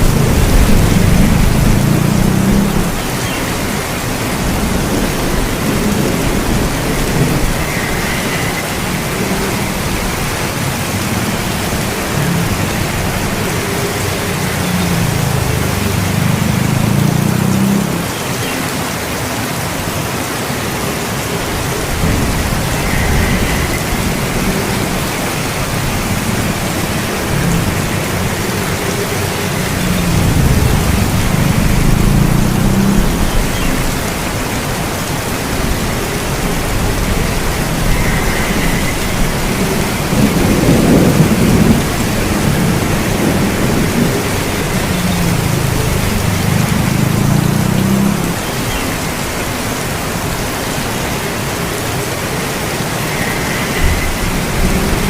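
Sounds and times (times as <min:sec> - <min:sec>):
thunder rolling: 0:00.0 - 0:18.0, 0:21.4 - 0:34.6, 0:35.4 - 0:48.2, 0:52.3 - 0:55.0
steady rain hissing: 0:00.0 - 0:55.0.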